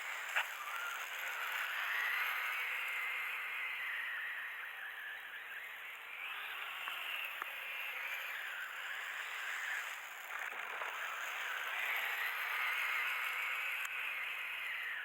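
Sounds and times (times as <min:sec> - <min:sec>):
toy vehicle motor whining: 0:00.0 - 0:15.0.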